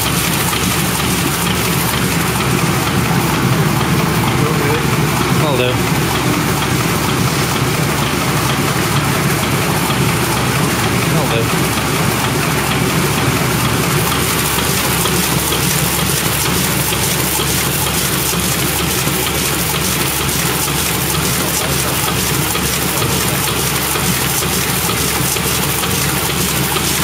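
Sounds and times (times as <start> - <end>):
printing press running: 0.0 - 27.0
rapid ticking of sheets feeding: 0.0 - 27.0.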